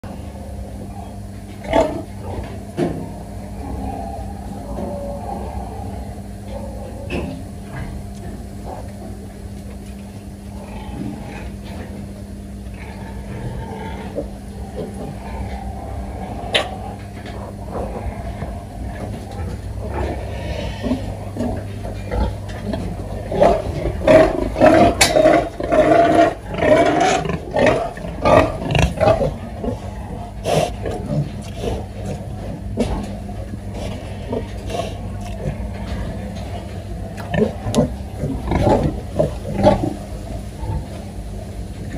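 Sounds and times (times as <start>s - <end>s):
low steady hum: 0.0s - 41.9s
pigs grunting: 0.0s - 41.9s.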